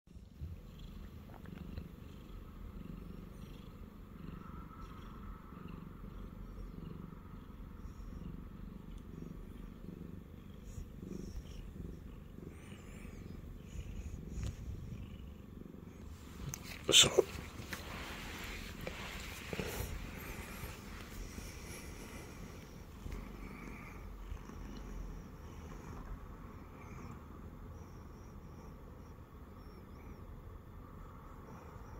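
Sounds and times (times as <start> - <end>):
cat purring: 0.1 - 31.9.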